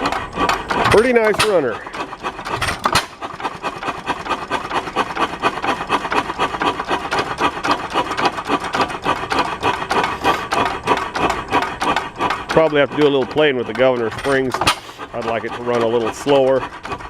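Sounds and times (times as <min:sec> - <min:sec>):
single-cylinder engine exhaust beats: 0:00.0 - 0:17.0
valve-gear clatter: 0:00.0 - 0:17.0.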